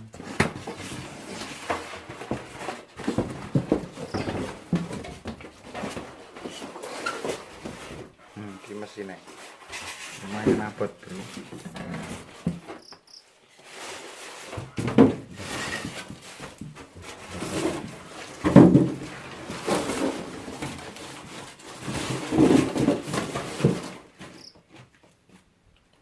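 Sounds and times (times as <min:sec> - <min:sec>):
cardboard box rustling: 0:00.2 - 0:12.9, 0:13.6 - 0:24.5.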